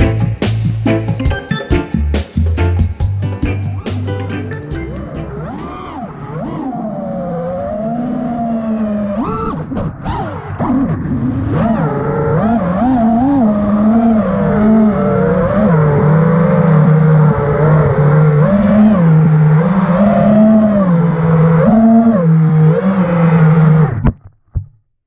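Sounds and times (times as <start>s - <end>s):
drone propellers buzzing: 2.6s - 24.0s.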